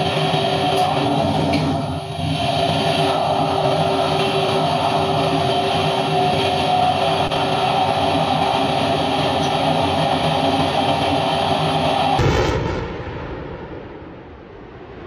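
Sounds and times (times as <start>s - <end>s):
jet engine rush and whine: 0.0s - 15.0s.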